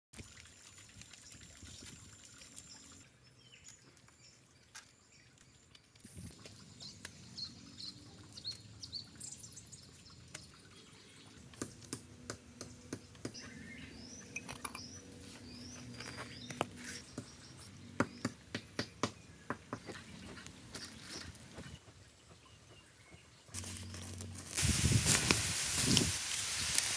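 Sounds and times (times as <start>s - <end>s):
birds chirping: 2.4s - 24.5s.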